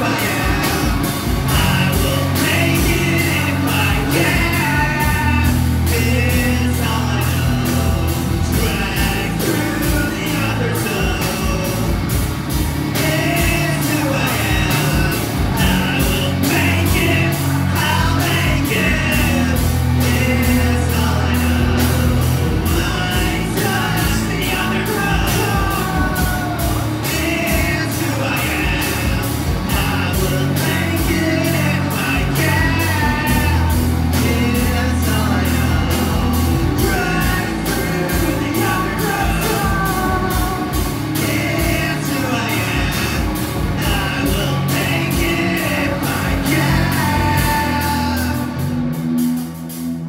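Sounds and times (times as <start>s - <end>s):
person singing: 0.0s - 49.4s
drums: 0.0s - 50.0s
electric guitars: 0.0s - 50.0s.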